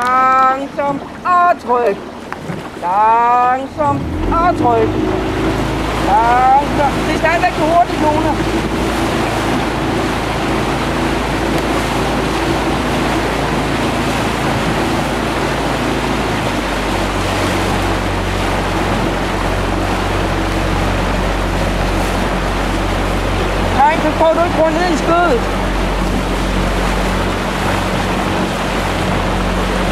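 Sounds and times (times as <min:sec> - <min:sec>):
outboard engine running: 0:00.0 - 0:29.9
water noise: 0:00.0 - 0:29.9
wind noise on microphone: 0:03.8 - 0:29.9.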